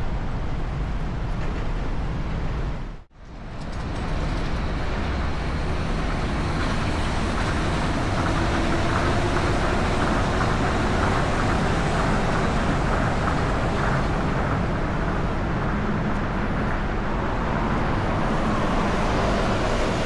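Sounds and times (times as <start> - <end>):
monorail train running: 0.0 - 20.0
road traffic noise: 0.0 - 20.0.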